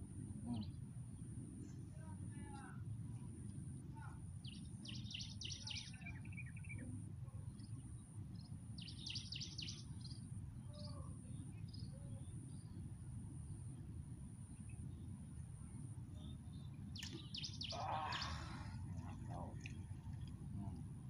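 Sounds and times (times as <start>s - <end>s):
songbird singing: 0.2s - 21.0s.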